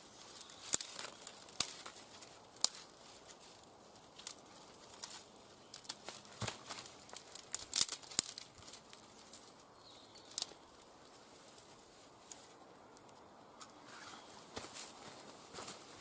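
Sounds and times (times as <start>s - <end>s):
kindling cracking: 0.0s - 13.8s.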